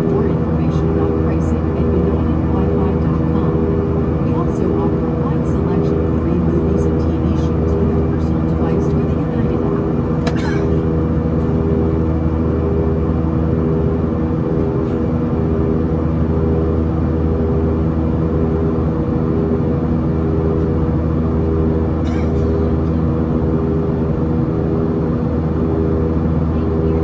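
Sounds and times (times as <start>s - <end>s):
jet engines droning in cabin: 0.0s - 27.0s.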